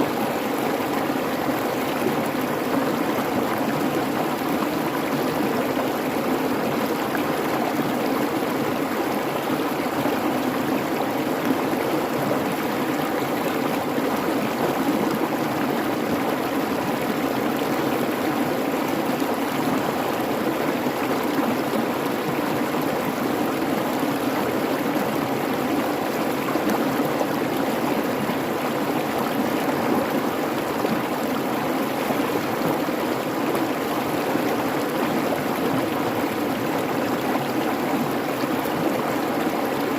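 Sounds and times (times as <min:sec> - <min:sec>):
creek babbling: 0:00.0 - 0:39.9.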